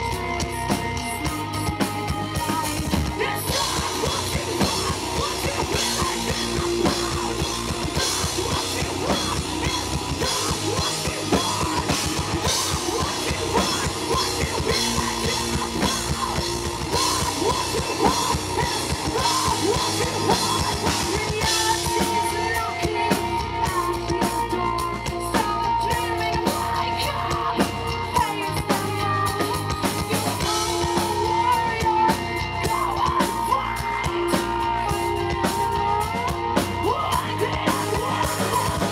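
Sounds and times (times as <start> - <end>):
metal band playing live: 0.0 - 38.9.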